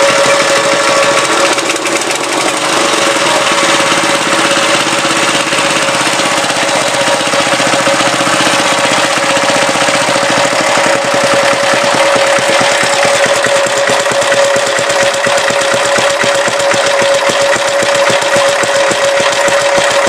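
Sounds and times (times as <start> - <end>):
small petrol engine running: 0.0 - 20.0.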